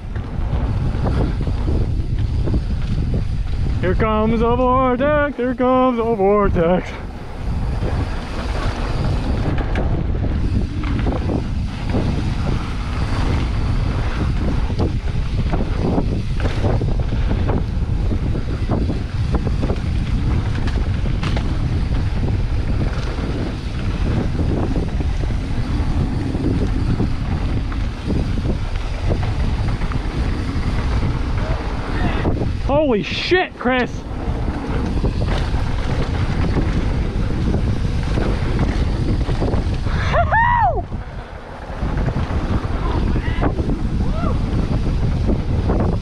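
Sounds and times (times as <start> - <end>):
bike knocking and rattling: 0.0 - 46.0
wind rushing over microphone: 0.0 - 46.0.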